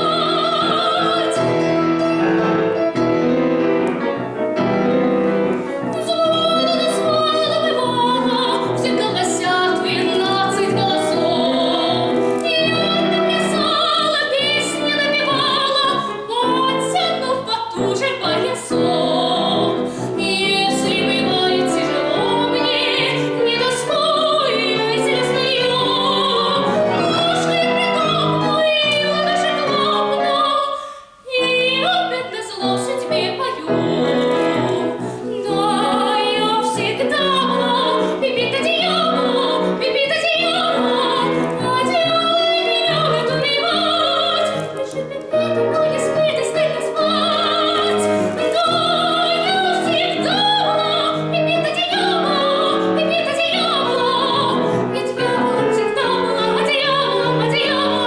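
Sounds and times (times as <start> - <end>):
instrumental accompaniment: 0.0 - 30.6, 31.3 - 58.0
woman singing classical song: 0.0 - 58.0.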